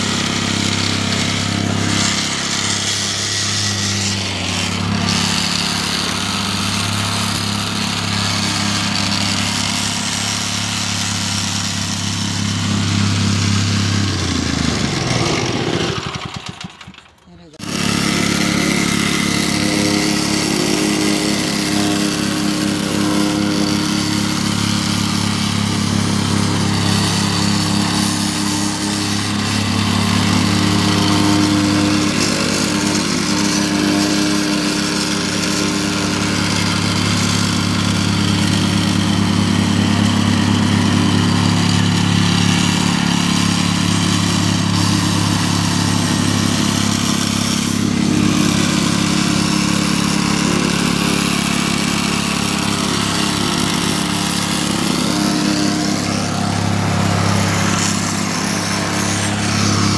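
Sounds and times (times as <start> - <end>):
plate compactor engine running: 0.0 - 59.9.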